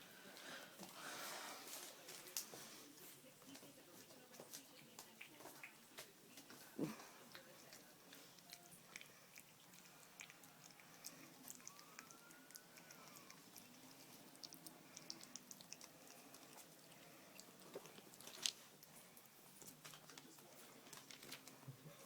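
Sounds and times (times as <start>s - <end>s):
cat chewing: 3.6s - 22.0s.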